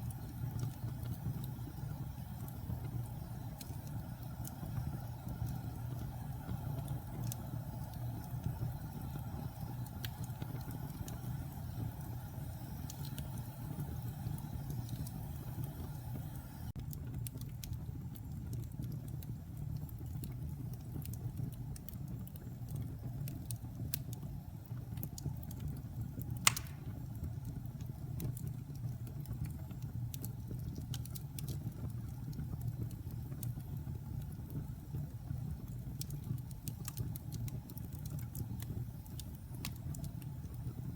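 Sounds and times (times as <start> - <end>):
fireplace low rumble: 0.0 - 40.9
small fire crackles: 0.0 - 40.9.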